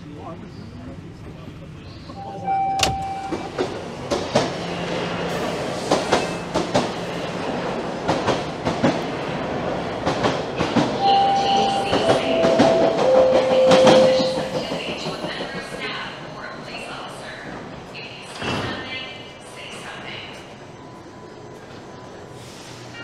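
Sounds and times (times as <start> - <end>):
subway train rumble: 0.0 - 23.0.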